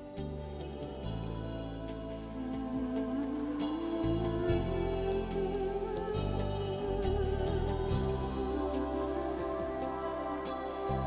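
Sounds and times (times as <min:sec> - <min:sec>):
bass line: 0:00.0 - 0:11.0
sustained background music: 0:00.0 - 0:11.0.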